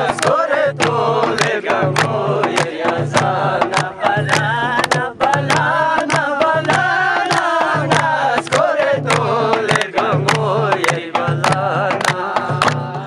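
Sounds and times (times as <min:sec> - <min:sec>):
hand clapping: 0:00.0 - 0:13.0
person singing folk song: 0:00.0 - 0:13.0
repeating low beat: 0:00.0 - 0:13.0.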